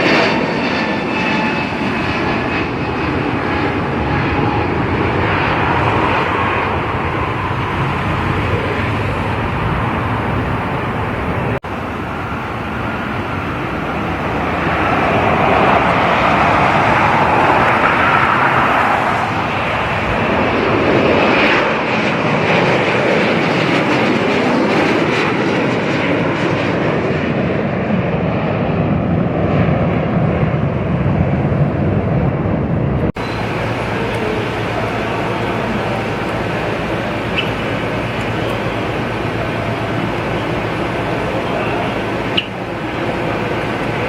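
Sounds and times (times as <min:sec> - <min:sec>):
jet airliner engine passing: 0:00.0 - 0:44.0.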